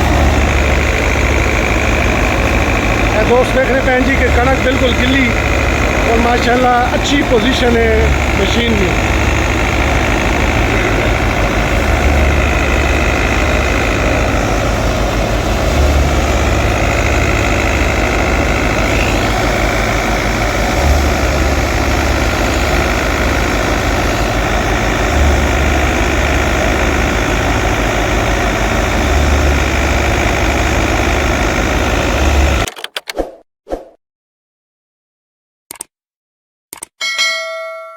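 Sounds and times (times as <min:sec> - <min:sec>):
tractor diesel engine running: 0:00.0 - 0:32.7
wheat thresher: 0:00.0 - 0:32.7.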